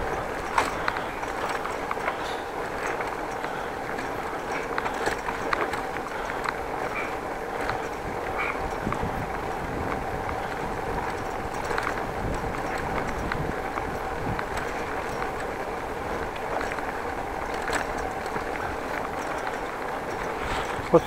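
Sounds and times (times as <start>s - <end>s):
bicycle tyres rumbling on bricks: 0.0s - 21.0s
bike rattling clicks: 0.0s - 21.0s.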